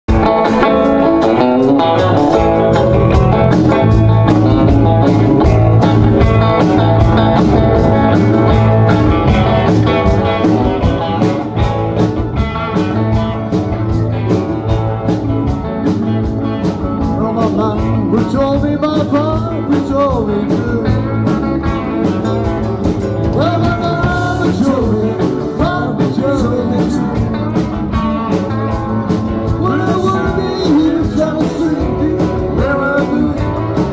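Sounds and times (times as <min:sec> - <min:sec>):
live rock band: 0:00.1 - 0:33.9
pitch-bending guitar lead: 0:00.1 - 0:33.9.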